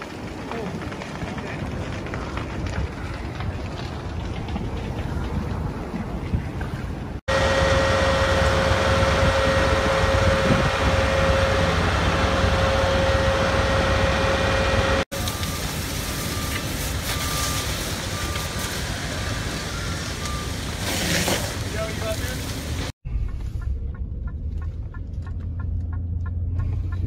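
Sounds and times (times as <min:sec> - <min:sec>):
fire engine running: 0:00.0 - 0:27.0.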